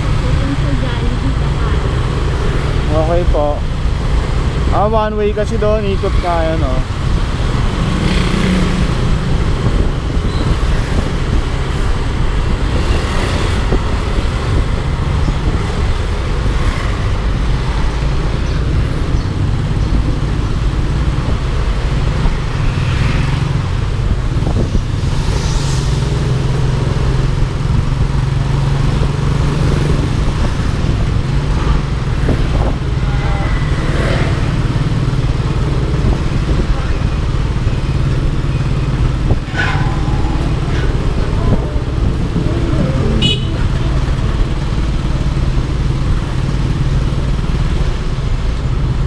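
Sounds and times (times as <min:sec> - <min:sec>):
road and wind rumble: 0:00.0 - 0:49.0
surrounding traffic: 0:00.0 - 0:49.0.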